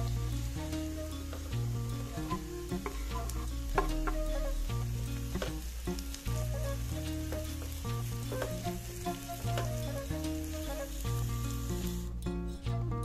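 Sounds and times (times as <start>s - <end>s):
vegetables sizzling in oil: 0.0s - 12.2s
music with deep bass line: 0.0s - 13.0s.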